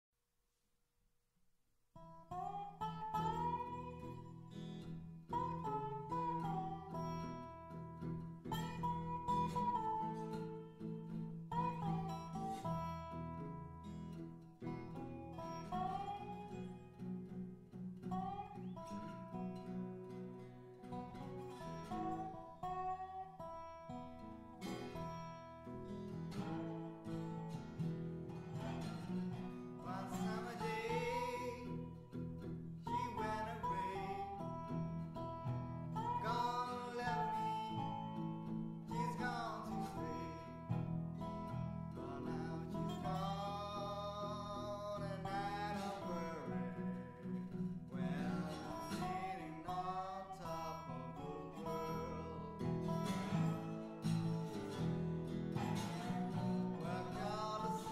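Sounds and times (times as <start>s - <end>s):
acoustic guitar picked and strummed: 1.9s - 57.9s.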